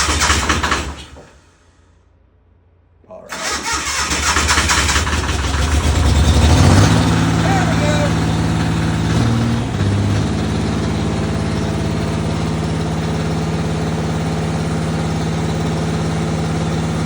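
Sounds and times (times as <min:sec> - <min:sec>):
diesel engine idling: 0:03.3 - 0:17.0.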